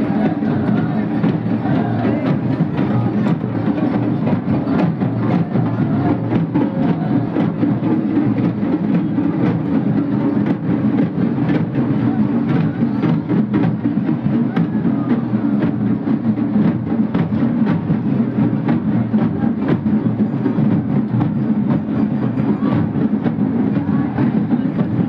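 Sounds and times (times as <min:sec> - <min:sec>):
drums beating fast: 0:00.0 - 0:25.0.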